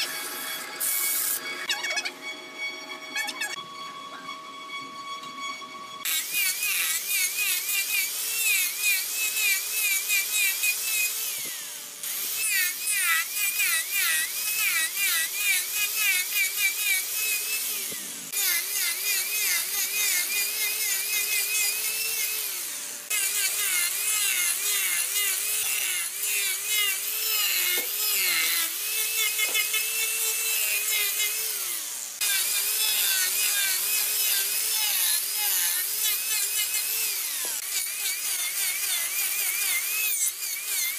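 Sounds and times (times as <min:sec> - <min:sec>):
angle grinder grinding wood: 0:00.0 - 0:40.9.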